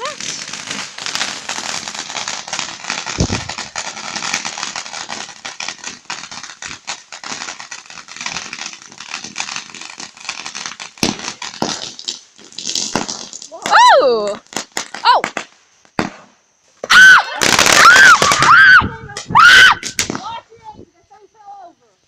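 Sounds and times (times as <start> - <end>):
loud firework pops: 0.0 - 20.3
sharp firework crack: 0.0 - 20.4
firework crackling: 0.0 - 21.2.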